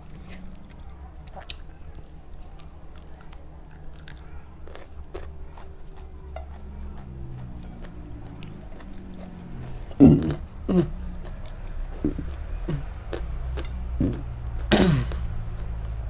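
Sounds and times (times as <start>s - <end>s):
chewing and mouth smacks: 0.0s - 16.0s.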